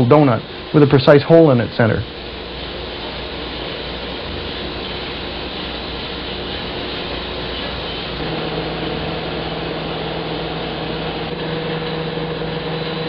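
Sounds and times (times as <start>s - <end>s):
steady hum: 0.0s - 13.0s
wire-drawing machine running: 0.0s - 13.0s.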